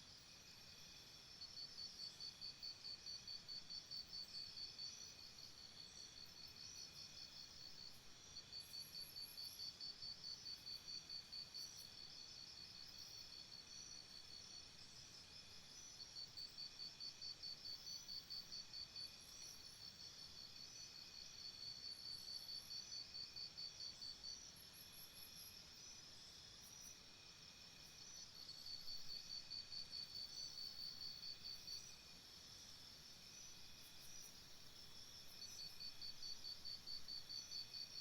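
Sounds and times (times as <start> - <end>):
faint insect chirping: 0.0 - 38.0
soft background hiss: 0.0 - 38.0.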